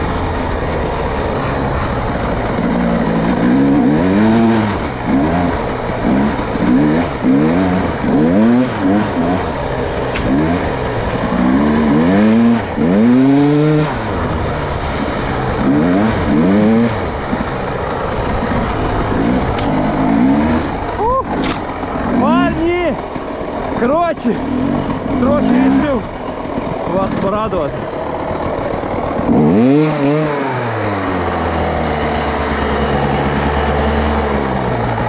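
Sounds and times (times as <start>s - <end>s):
vehicle engine revving: 0.0s - 35.0s.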